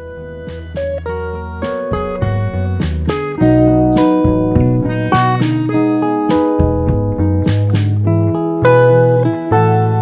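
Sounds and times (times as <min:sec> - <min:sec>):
acoustic guitar music with beat: 0:00.0 - 0:10.0.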